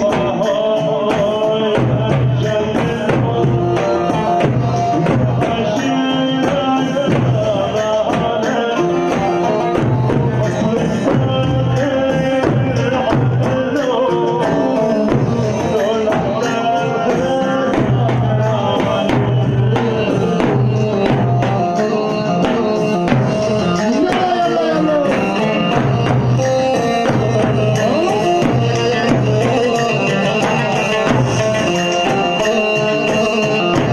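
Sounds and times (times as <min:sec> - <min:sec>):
hand drum and tambourine: 0:00.0 - 0:33.9
wedding music: 0:00.0 - 0:33.9.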